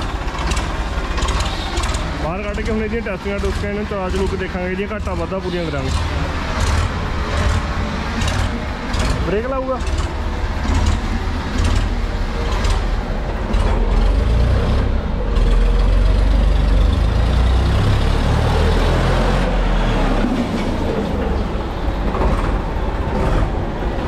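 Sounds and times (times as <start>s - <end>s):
tractor diesel engine passing: 0.0s - 24.0s.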